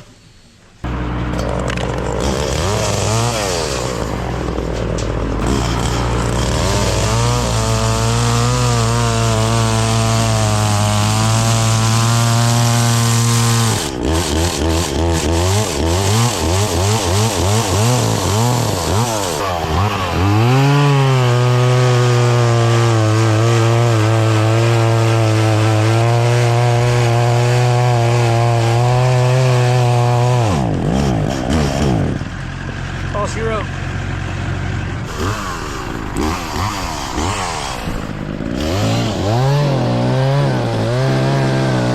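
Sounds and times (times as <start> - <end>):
chainsaw cutting wood: 0.8 - 33.1, 35.0 - 41.9.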